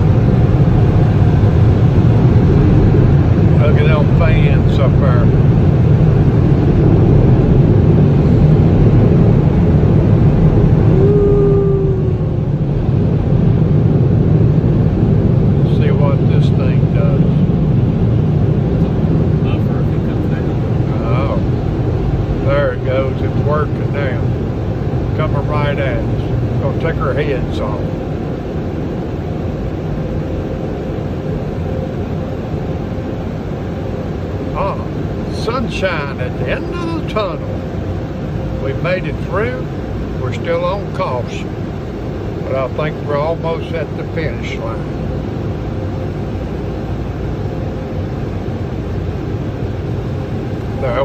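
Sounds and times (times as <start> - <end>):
dryer blowers rushing air: 0.0 - 51.0
faint falling whine: 0.0 - 51.0
faint steady hum: 0.0 - 51.0
low rumble: 0.0 - 51.0.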